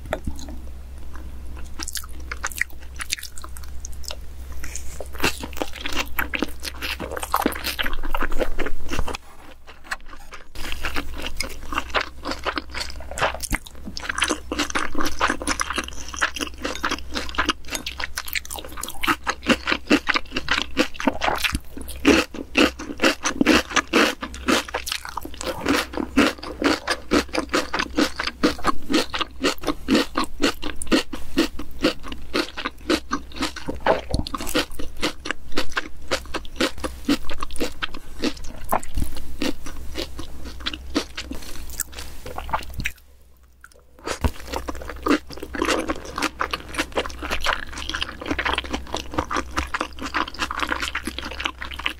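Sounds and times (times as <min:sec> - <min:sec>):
wet crunchy chewing: 0:00.1 - 0:43.0, 0:43.6 - 0:51.9.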